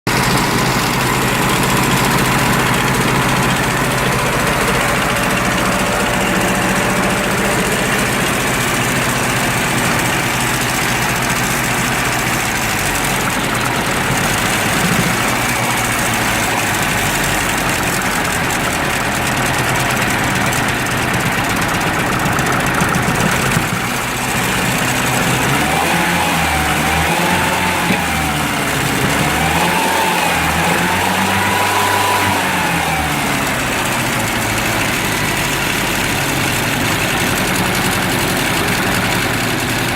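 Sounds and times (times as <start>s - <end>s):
engine idling with a misfire: 0.0s - 39.9s.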